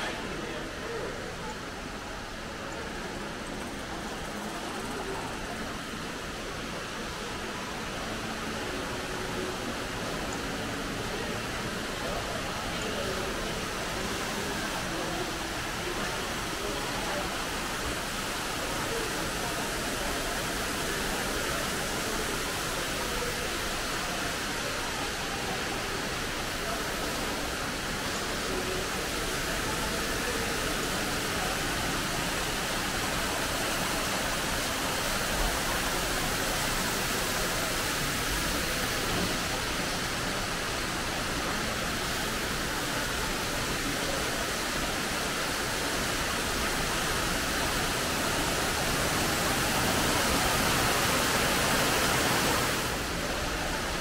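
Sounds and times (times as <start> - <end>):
indoor waterfall rushing: 0.0 - 54.0.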